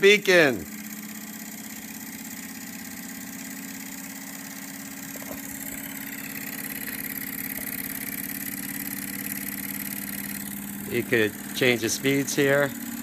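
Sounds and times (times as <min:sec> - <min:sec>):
toy steam engine chuffing: 0:00.0 - 0:13.0.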